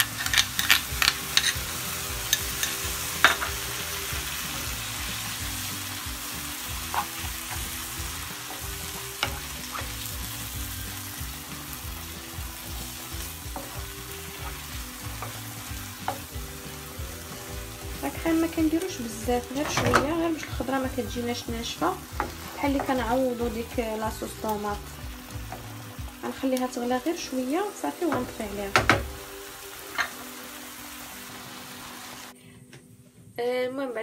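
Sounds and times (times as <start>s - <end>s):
vegetables sizzling in a frying pan: 0.0s - 32.4s.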